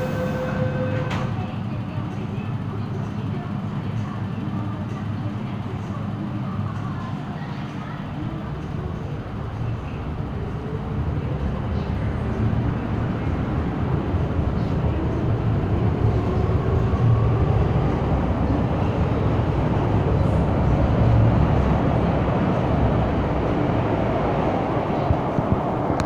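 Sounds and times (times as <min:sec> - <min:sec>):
train wheels and motors rumbling: 0:00.0 - 0:26.0.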